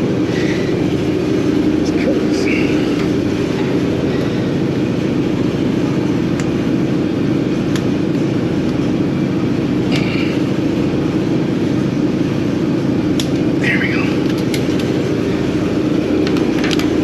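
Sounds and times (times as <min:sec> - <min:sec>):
boat machinery droning: 0:00.0 - 0:17.0.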